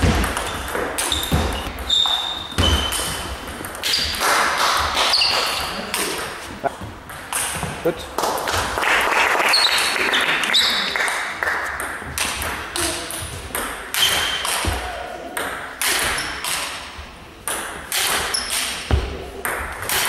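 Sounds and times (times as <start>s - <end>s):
table tennis ball hits: 0.0s - 8.7s, 11.1s - 16.8s, 17.4s - 20.0s.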